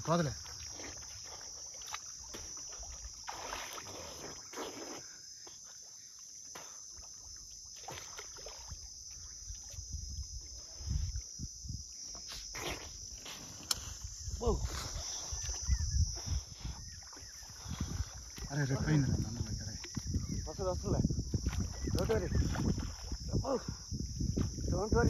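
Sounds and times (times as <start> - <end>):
high drone of insects: 0.0 - 25.0
water sloshing and splashing: 0.0 - 25.0.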